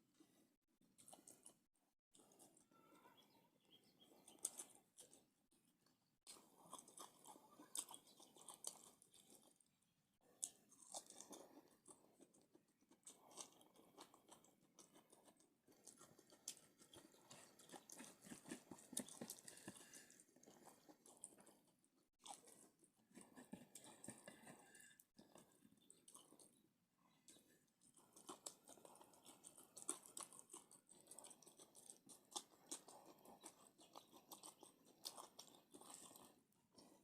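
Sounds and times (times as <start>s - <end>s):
person chewing crunchy food: 0.8s - 2.7s, 4.0s - 37.0s.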